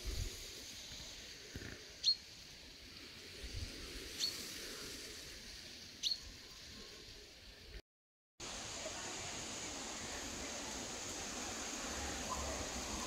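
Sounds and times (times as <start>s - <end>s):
faint outdoor hiss: 0.0s - 7.8s, 8.4s - 13.0s.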